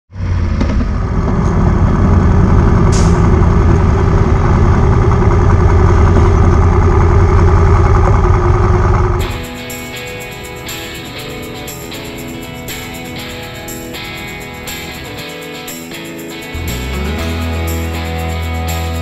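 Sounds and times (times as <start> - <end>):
motorcycle engine running: 0.2 - 19.0.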